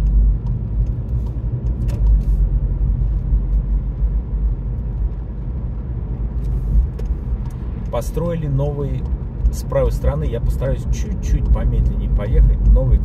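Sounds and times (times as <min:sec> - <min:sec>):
car driving rumble from inside: 0:00.0 - 0:13.0.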